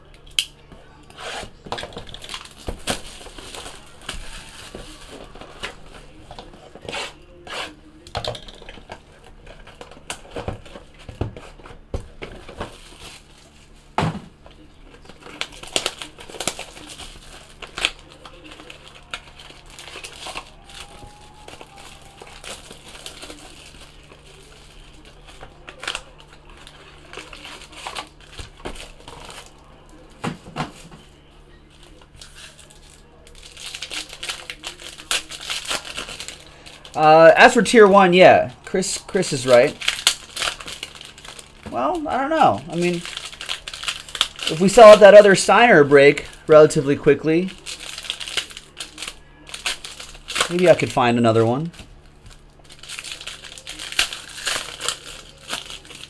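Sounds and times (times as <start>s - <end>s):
card packs crackling and tapping: 0.0s - 56.0s
plastic wrap crinkling and tearing: 1.1s - 56.0s.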